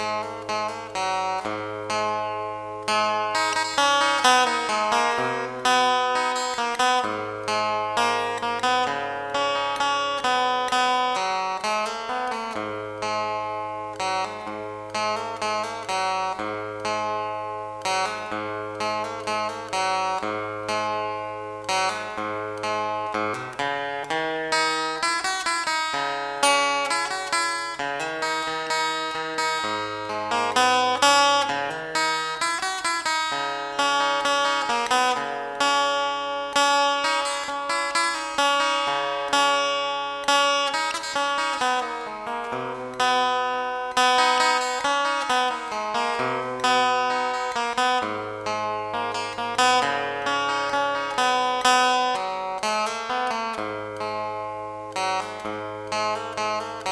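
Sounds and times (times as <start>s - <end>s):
plucked acoustic guitar: 0.0s - 56.9s.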